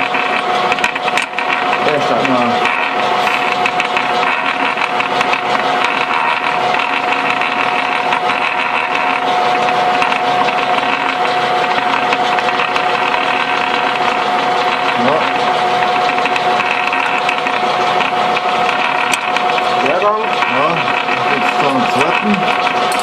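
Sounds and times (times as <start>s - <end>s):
gearbox rattle: 0.0s - 23.0s
gears whining: 0.0s - 23.0s.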